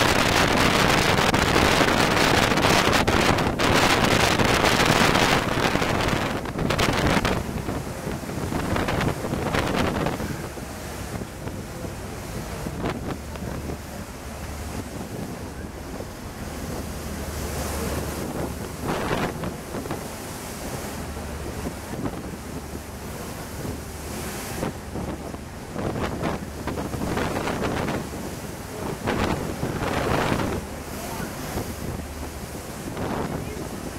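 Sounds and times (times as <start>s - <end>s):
choppy sea rushing: 0.0s - 33.9s
low hum from ship: 0.0s - 33.9s
wind buffeting microphone: 0.0s - 33.9s.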